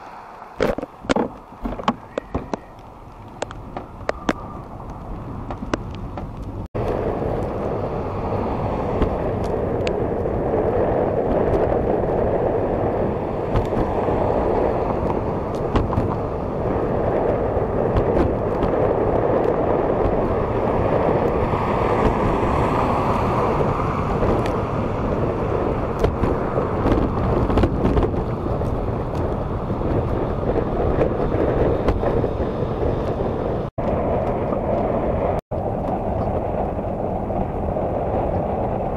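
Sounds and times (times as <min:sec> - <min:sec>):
rushing wind: 0:00.0 - 0:38.9.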